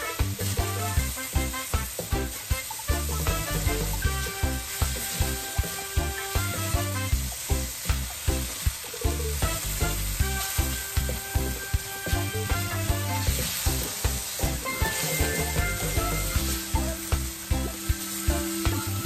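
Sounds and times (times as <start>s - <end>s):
background music with beat: 0.0s - 19.0s
chicken sizzling in wok: 0.0s - 19.0s
wooden spatula stir-frying: 0.0s - 19.0s.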